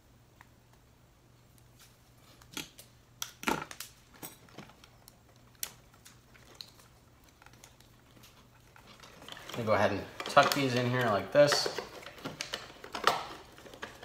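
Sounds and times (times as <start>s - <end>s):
hands handling wires and tape: 1.5s - 14.0s.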